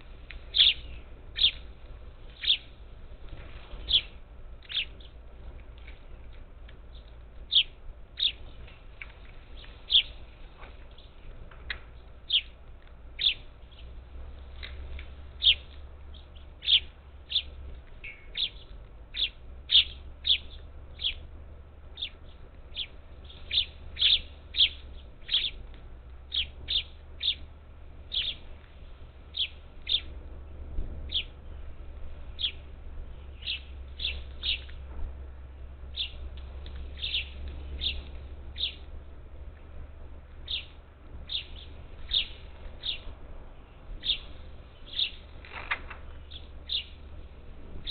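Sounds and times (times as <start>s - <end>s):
parakeets calling: 0.0s - 6.1s, 6.9s - 30.4s, 31.0s - 47.9s
faint low hum: 0.0s - 47.9s.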